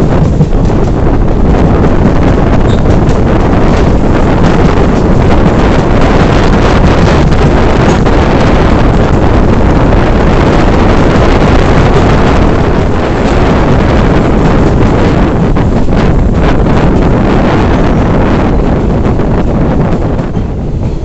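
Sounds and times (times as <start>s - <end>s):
strong wind buffeting microphone: 0.0s - 21.0s
train rumbling along track: 0.0s - 21.0s.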